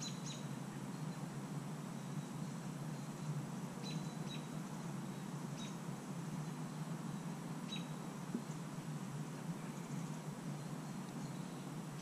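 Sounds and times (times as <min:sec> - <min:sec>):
bird chirping: 0:00.0 - 0:05.8, 0:06.4 - 0:08.7, 0:09.3 - 0:12.0.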